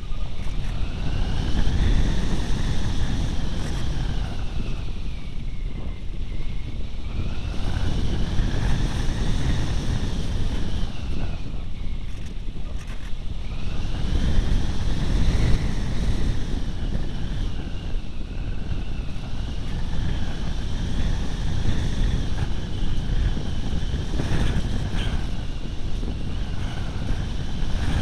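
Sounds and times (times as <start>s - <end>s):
high whine of electric motor: 0.0s - 28.0s
wind rushing over microphone: 0.0s - 28.0s.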